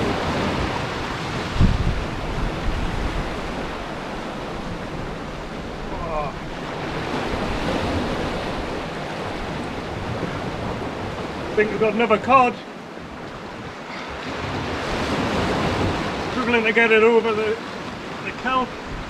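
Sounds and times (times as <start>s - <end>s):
wind on microphone: 0.0s - 11.6s, 12.9s - 16.4s, 17.7s - 19.0s
waves breaking over rocks: 0.0s - 19.0s.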